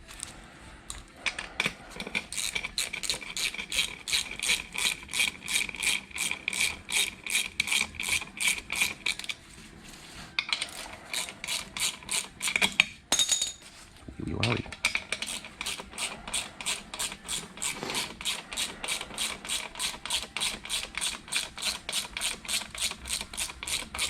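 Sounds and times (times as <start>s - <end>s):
ratchet wrench clicking: 1.3s - 9.4s, 10.6s - 13.0s, 14.8s - 24.0s.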